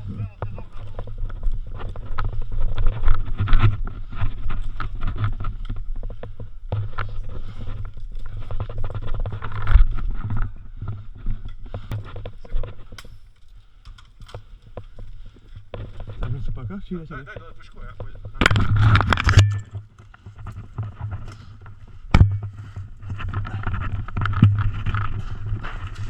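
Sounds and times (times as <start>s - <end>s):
gear knocking and rustling: 0.0s - 26.0s
hurried footsteps: 0.0s - 26.0s.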